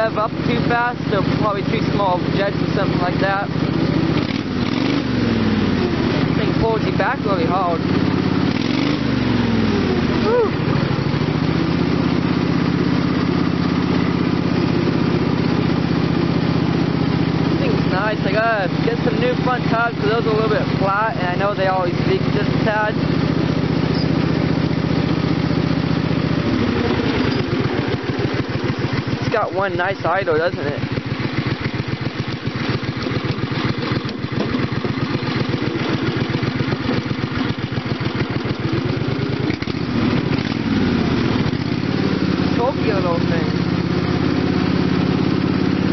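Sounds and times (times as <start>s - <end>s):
small gasoline engine running: 0.0s - 45.9s.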